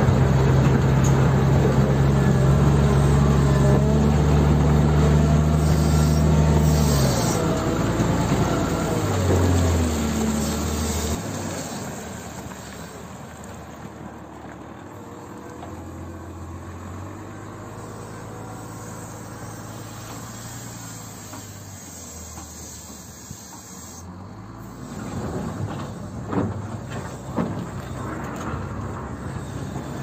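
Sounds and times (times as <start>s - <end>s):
wheel loader diesel engine: 0.0s - 30.0s.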